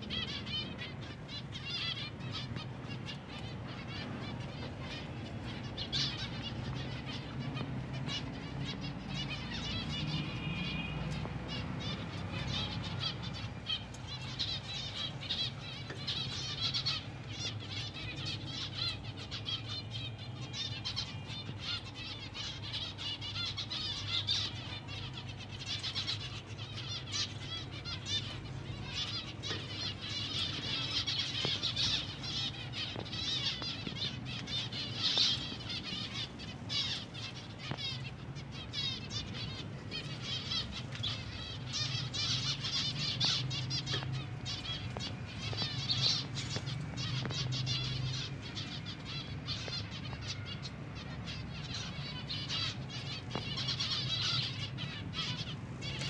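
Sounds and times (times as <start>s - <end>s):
finches chattering: 0.0s - 56.0s.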